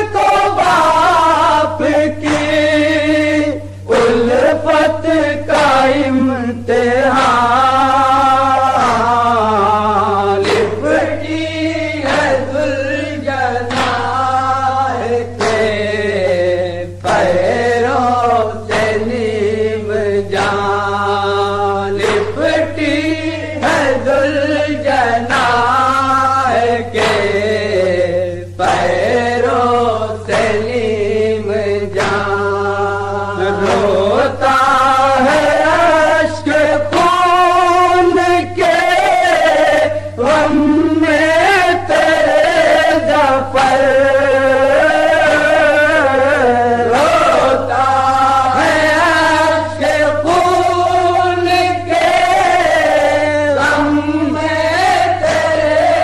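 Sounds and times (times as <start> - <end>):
sharp beats: 0.0 - 6.3, 7.0 - 16.1, 17.0 - 56.0
steady low hum: 0.0 - 56.0
voices chanting a lament: 0.0 - 56.0.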